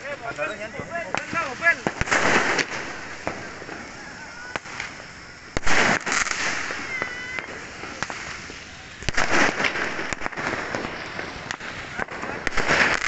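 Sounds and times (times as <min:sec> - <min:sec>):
firework pops: 0:00.0 - 0:13.0
firework whistle: 0:00.0 - 0:13.0
fireworks bangs: 0:00.0 - 0:13.0
fireworks crackling: 0:00.0 - 0:13.0.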